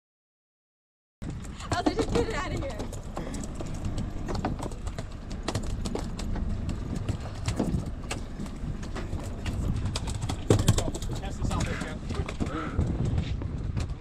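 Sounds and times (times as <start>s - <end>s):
low rumble: 1.2s - 14.0s
fish thrashing on boat deck: 1.8s - 13.2s.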